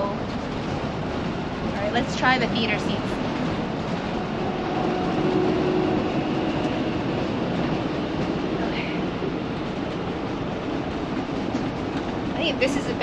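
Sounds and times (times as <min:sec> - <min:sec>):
road and drivetrain rumble: 0:00.0 - 0:13.0.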